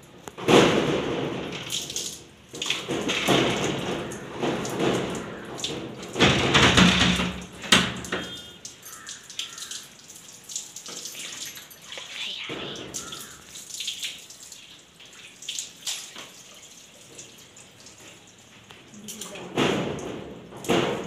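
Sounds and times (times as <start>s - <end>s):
water pouring over hair: 0.0s - 21.0s
water splashing on concrete floor: 0.0s - 21.0s.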